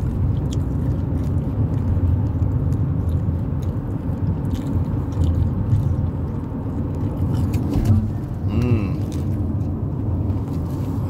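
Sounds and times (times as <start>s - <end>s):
low rumble inside car cabin: 0.0s - 11.0s.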